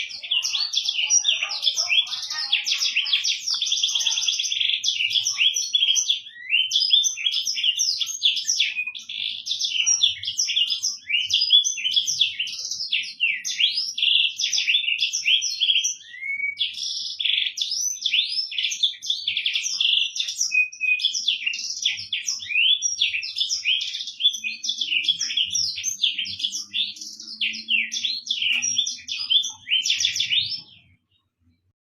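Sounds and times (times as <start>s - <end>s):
canary singing: 0.0s - 31.5s.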